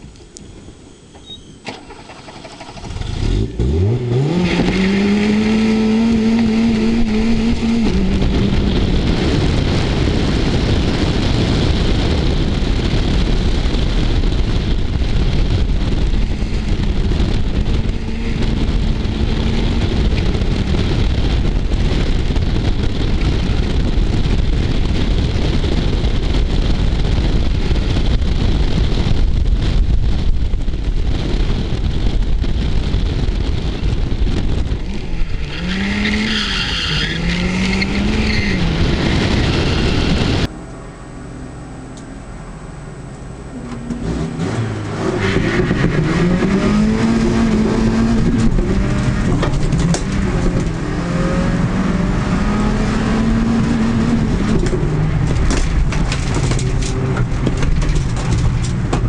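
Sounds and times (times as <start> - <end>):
wind noise on microphone: 0.0 - 59.0
car engine revving: 1.9 - 28.0, 33.6 - 59.0.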